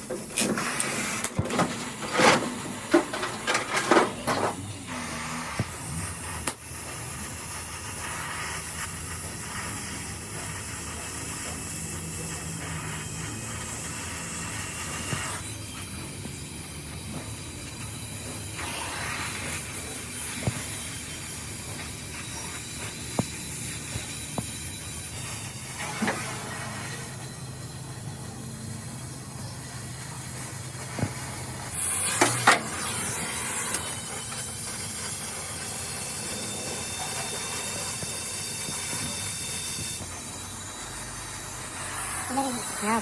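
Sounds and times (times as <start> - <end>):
steady hiss: 0.0 - 43.0.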